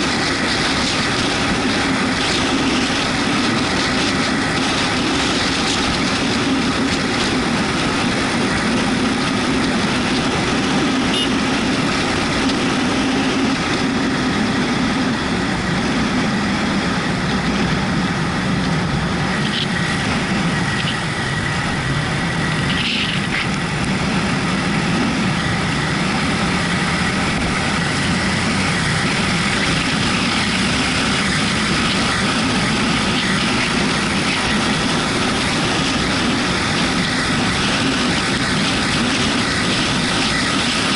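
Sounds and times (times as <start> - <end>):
motorcycle engine running: 0.0 - 40.9
wet road noise: 0.0 - 40.9
wind rushing: 0.0 - 40.9.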